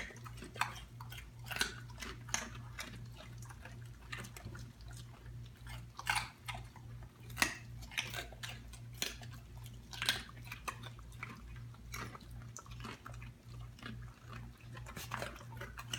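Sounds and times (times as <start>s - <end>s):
dog crunching carrot: 0.0s - 15.9s.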